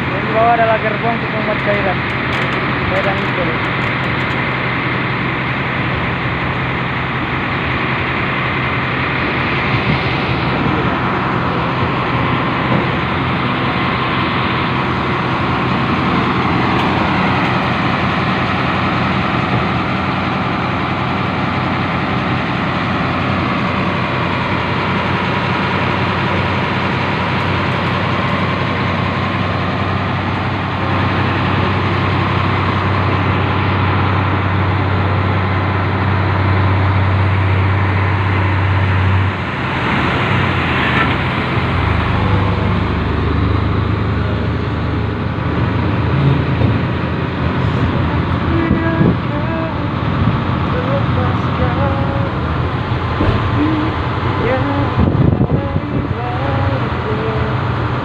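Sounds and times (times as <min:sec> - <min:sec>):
locomotive engine hum: 0:00.0 - 0:58.0
train rumbling running noise: 0:00.0 - 0:58.0.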